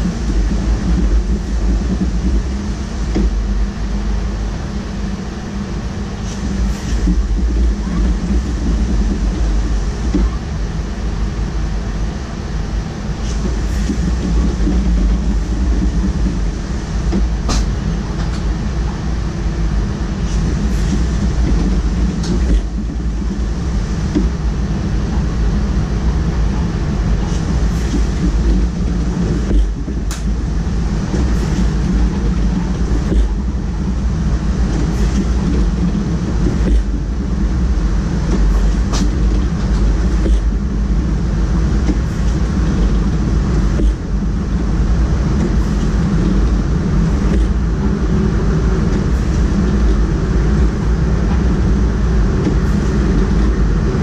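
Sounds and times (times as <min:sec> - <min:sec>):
electric train running noise: 0:00.0 - 0:54.0.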